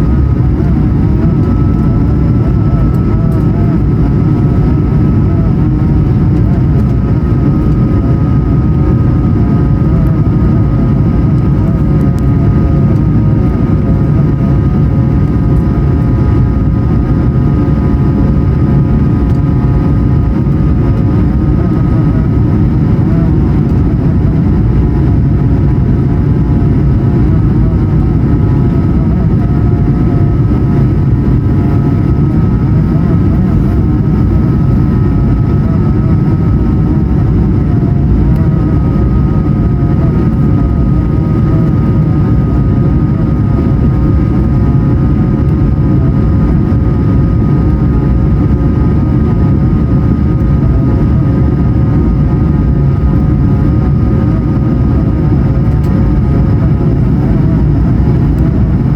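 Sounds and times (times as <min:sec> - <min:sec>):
jet engine low rumble: 0:00.0 - 0:58.9.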